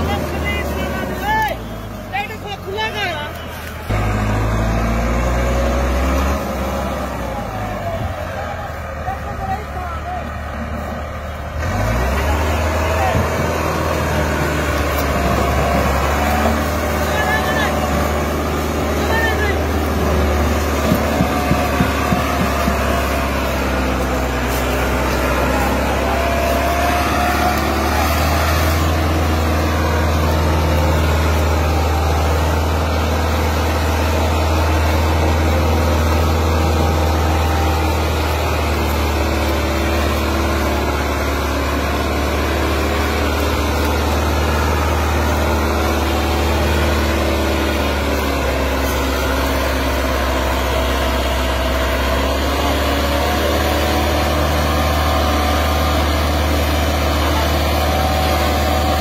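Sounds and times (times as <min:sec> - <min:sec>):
tractor diesel engine labouring: 0:00.0 - 0:59.0.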